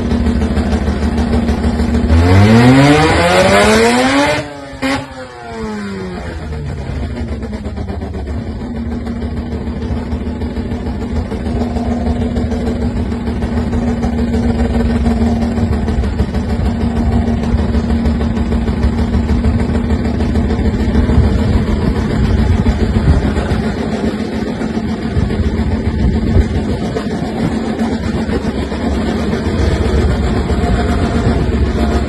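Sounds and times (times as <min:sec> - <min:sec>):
car engine and exhaust running: 0:00.0 - 0:32.0.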